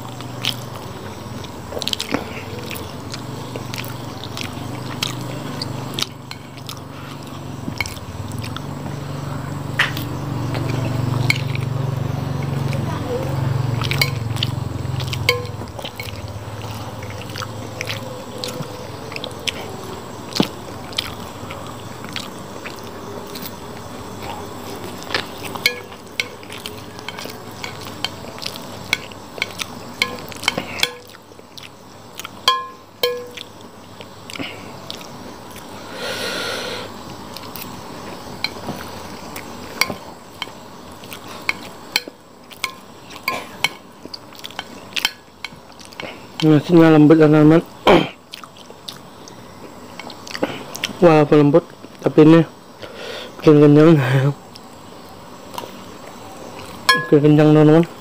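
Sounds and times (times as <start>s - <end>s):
chewing: 0.0s - 36.0s, 36.9s - 46.8s, 47.6s - 51.0s, 54.4s - 54.8s, 55.4s - 57.2s.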